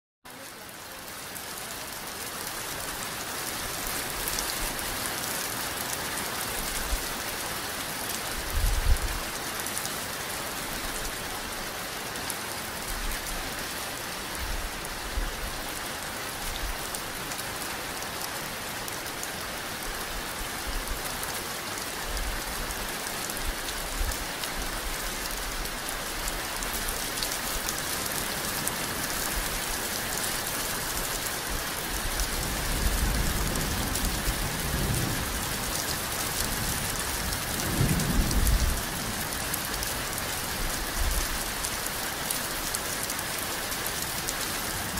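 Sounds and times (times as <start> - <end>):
steady rain: 0.3 - 44.9.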